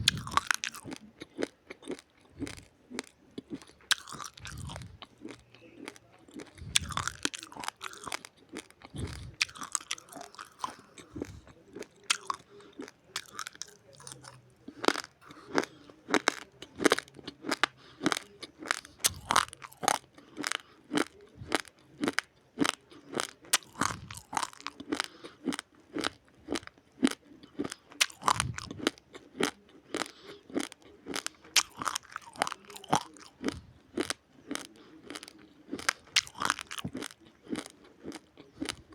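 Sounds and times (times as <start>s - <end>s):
person chewing crunchy rice: 0.0s - 38.9s.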